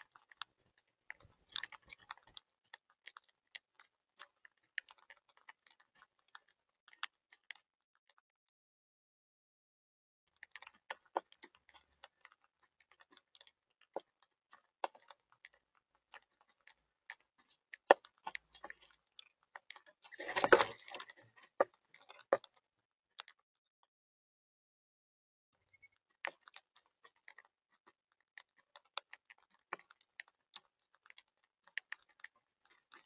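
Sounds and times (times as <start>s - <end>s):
small clicks and crackles: 0.0s - 8.3s, 10.3s - 23.5s, 25.6s - 33.0s.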